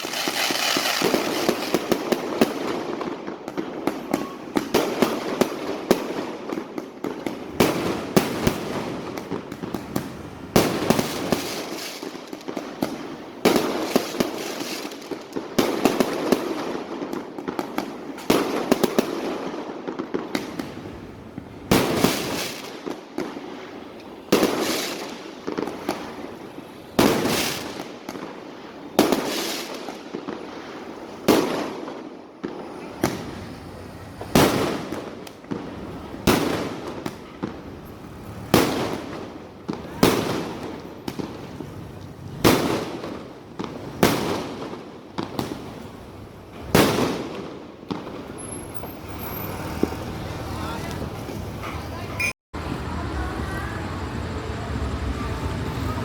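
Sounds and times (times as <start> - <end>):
firework booms: 0.0 - 50.0
fireworks crackling bangs: 0.0 - 52.0.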